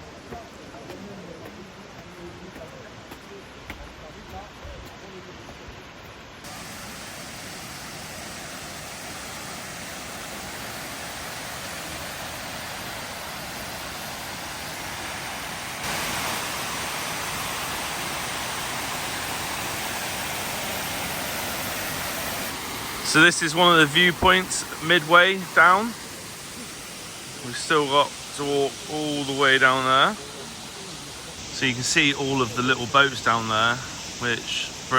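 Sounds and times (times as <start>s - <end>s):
large waterfall roaring: 6.4s - 34.9s.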